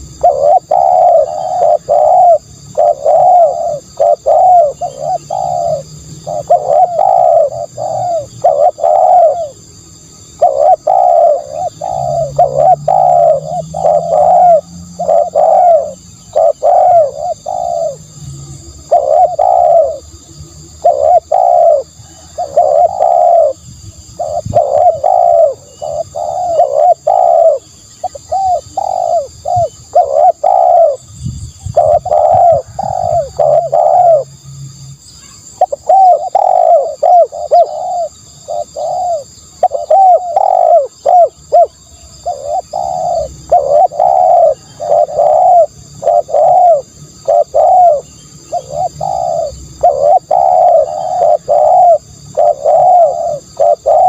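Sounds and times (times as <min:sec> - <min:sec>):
dove cooing: 0:00.0 - 0:34.4, 0:35.2 - 0:54.0.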